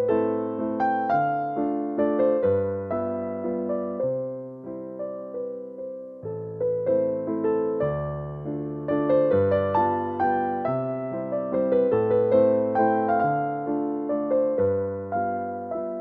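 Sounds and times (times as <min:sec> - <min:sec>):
slow gentle piano piece: 0:00.0 - 0:16.0.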